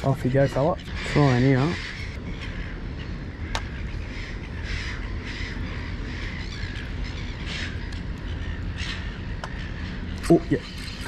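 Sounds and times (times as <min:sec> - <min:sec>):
harsh crow-like caws: 0:00.4 - 0:11.0.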